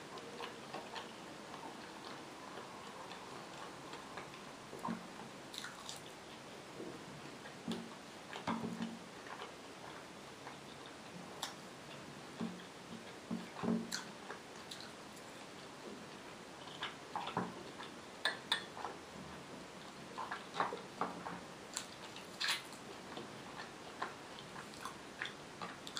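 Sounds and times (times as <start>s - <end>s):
person chewing food: 0.1s - 6.5s, 7.4s - 19.0s, 19.8s - 25.9s.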